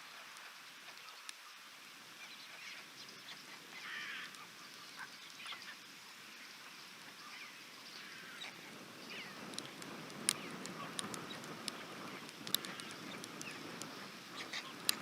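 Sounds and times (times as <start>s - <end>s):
rain pattering: 0.0s - 15.0s
falling bird calls: 0.9s - 15.0s.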